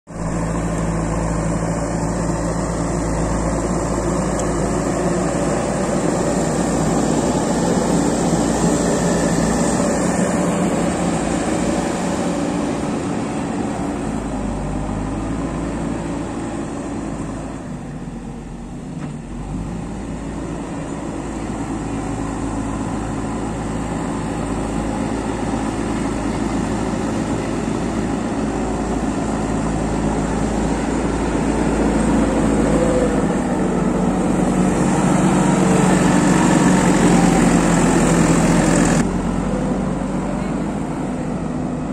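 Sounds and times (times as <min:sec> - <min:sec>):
diesel engine running: 0:00.1 - 0:41.9.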